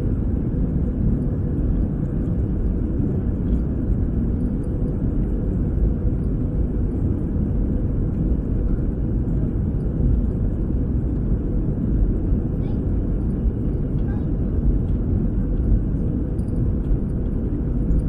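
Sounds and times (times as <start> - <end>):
airplane cabin low rumble: 0.0 - 18.0.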